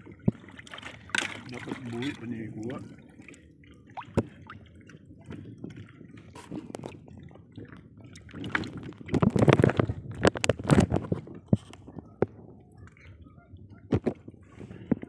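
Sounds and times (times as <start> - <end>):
water splashing against boat hull: 0.0 - 15.0.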